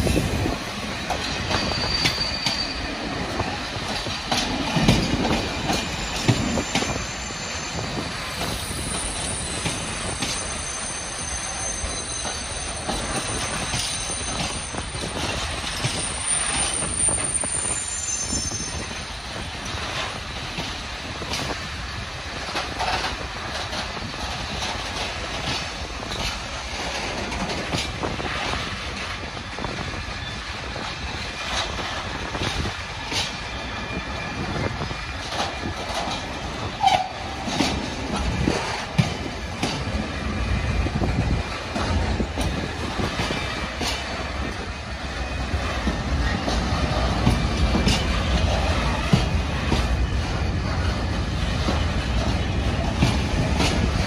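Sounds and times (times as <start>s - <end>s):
train wagons rumbling and rattling: 0.0s - 54.0s.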